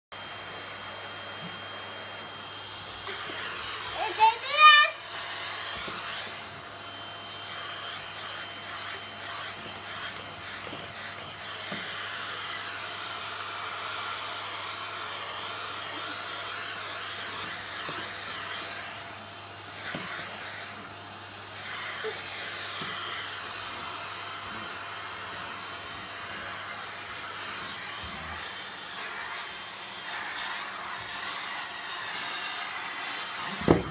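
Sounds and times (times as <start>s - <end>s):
vacuum cleaner running: 0.2s - 33.9s.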